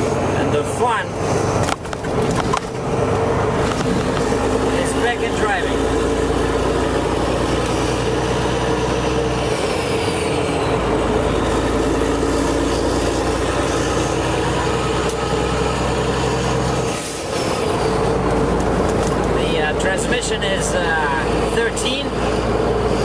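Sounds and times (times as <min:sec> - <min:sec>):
truck diesel engine exhaust drone: 0:00.0 - 0:23.0.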